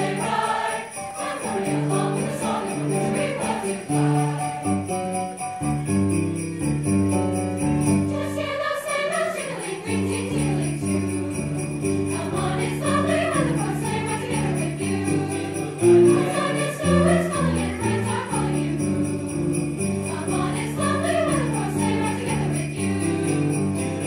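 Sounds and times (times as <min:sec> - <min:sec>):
choir singing: 0:00.0 - 0:04.9, 0:08.0 - 0:24.0
instrumental accompaniment: 0:00.0 - 0:24.0
sleigh bells shaken: 0:00.0 - 0:24.0.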